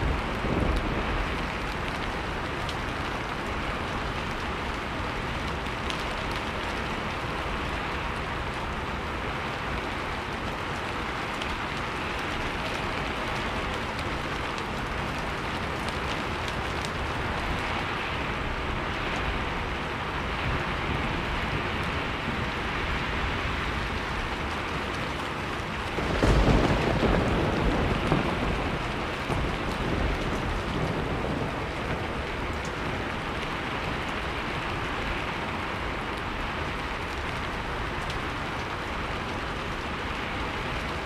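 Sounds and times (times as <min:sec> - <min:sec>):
sharp raindrop clicks: 0:00.0 - 0:41.0
steady rain hiss: 0:00.0 - 0:41.0.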